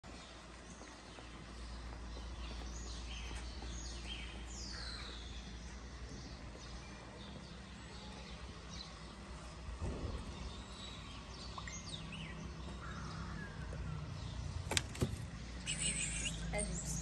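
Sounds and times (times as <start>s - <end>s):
low outdoor rumble: 0.1s - 17.0s
small birds chirping: 0.1s - 17.0s.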